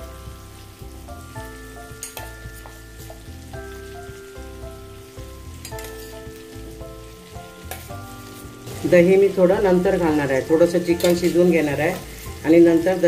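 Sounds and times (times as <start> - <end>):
chicken sizzling in a pan: 0.0 - 13.0
gentle instrumental music: 0.0 - 13.0.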